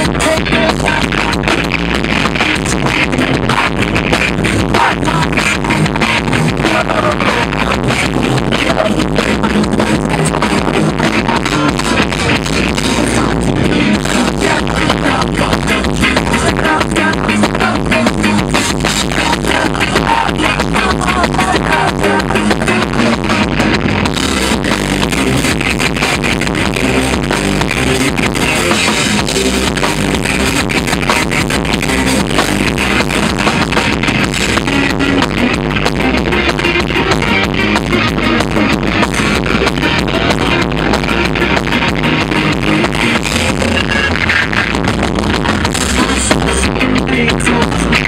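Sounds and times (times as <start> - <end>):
dense drum beat: 0.0 - 48.0
electric guitar and bass: 0.0 - 48.0
ska-punk band playing: 0.0 - 48.0.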